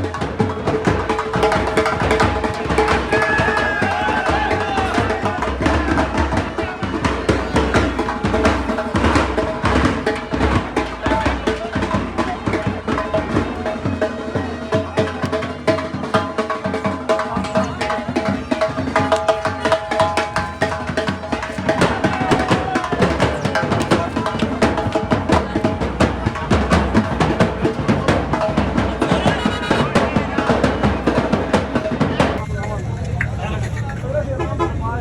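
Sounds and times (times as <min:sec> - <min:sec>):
rapid drum strokes: 0:00.0 - 0:32.5
voices: 0:00.0 - 0:35.0.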